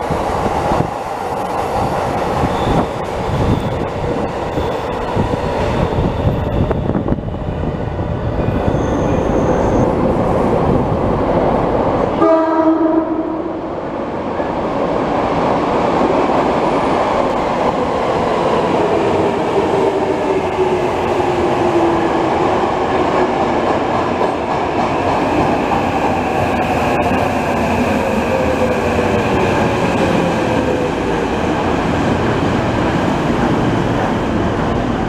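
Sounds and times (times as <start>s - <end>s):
falling whine of train: 0.0s - 35.0s
subway train braking: 0.0s - 35.0s.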